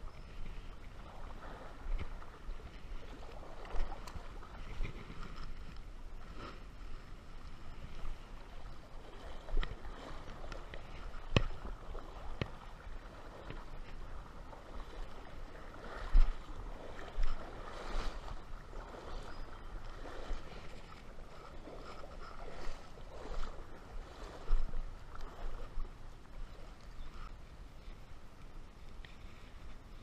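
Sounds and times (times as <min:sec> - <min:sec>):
river water sloshing: 0:00.0 - 0:30.0.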